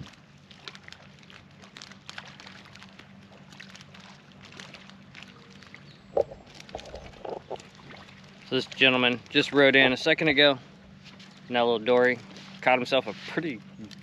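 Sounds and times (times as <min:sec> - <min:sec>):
small water splashes: 0:00.0 - 0:14.0.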